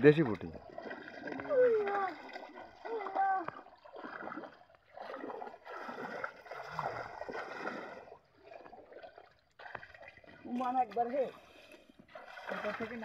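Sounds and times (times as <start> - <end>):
pond water splashing and sloshing: 0.0 - 13.0.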